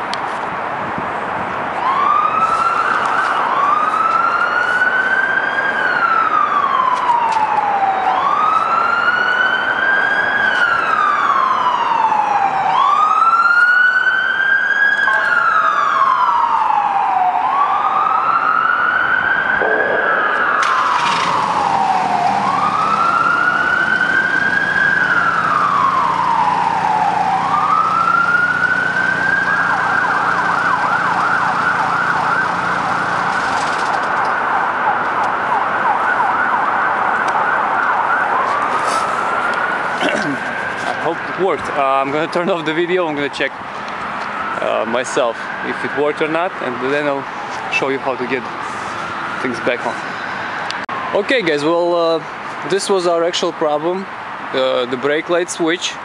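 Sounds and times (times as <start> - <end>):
siren wailing: 1.7 - 43.1, 44.1 - 53.8.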